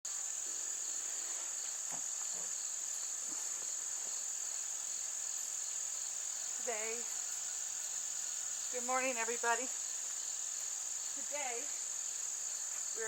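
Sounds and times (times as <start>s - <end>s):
insects singing shrill drone: 0.1s - 13.0s.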